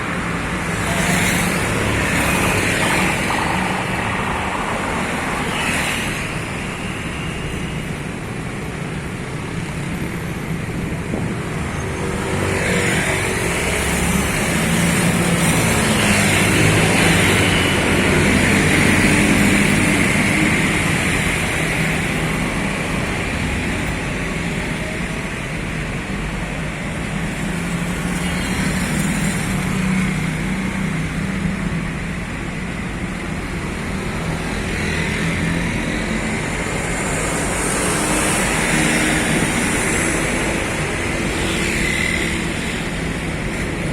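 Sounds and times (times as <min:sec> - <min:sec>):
road traffic passing: 0:00.0 - 0:43.9.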